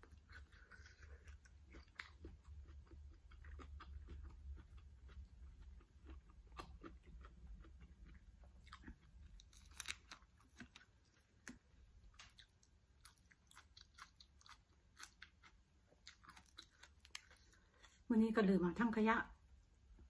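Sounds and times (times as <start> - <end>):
chewing and crunching food: 0.0 - 18.1.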